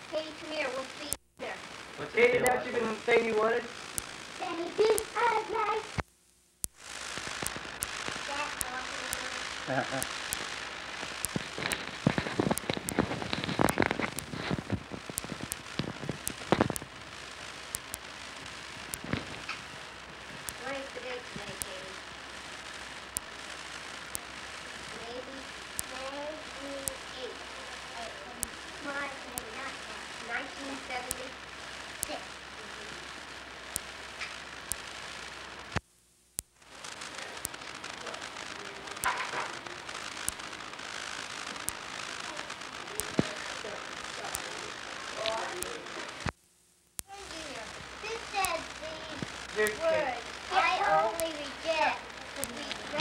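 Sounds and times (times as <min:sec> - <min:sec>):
recording hiss and crackle: 0:00.0 - 0:53.0
sharp clicks: 0:03.6 - 0:53.0.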